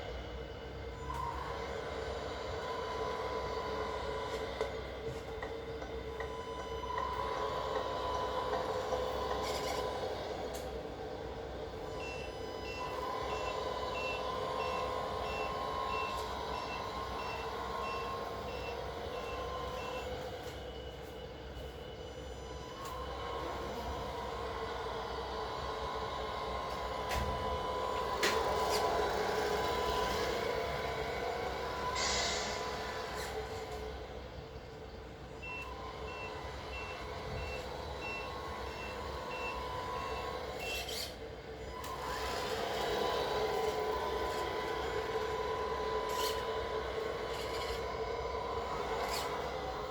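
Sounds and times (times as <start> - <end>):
simulated truck engine: 0.0 - 49.9.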